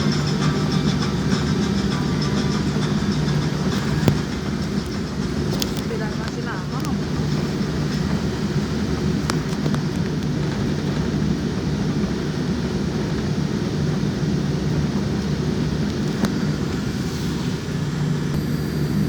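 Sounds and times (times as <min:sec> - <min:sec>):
jet airliner cabin rumble: 0:00.0 - 0:19.0.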